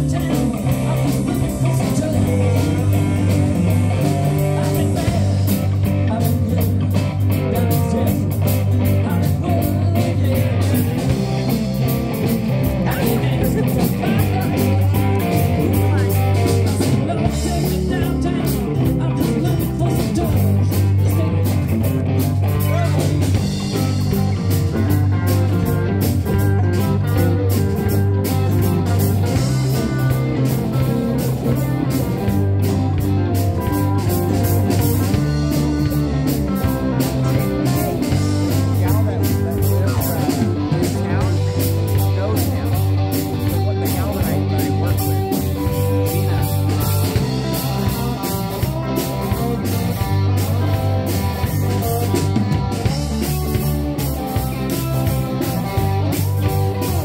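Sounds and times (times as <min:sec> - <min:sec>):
bass line: 0:00.0 - 0:57.0
electric guitars: 0:00.0 - 0:57.0
keyboard: 0:00.0 - 0:57.0
man singing: 0:00.0 - 0:57.0.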